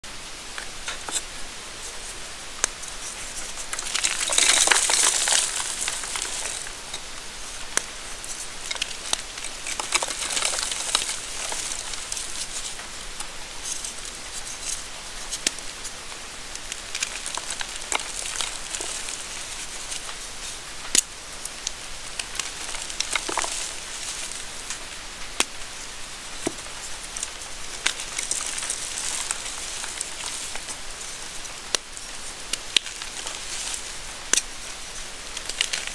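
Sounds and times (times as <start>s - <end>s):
chalk crunching and snapping: 2.6s - 7.1s, 7.7s - 15.6s, 16.6s - 24.8s, 26.4s - 34.5s.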